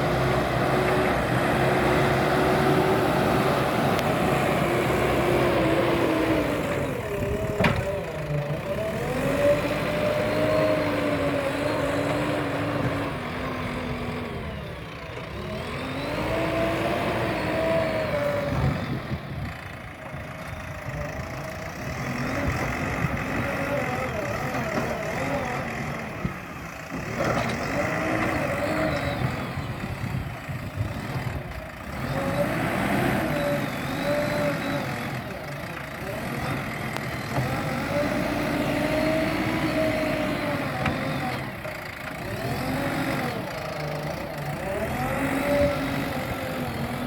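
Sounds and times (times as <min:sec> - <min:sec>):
diesel engine working under load: 0:00.0 - 0:47.0.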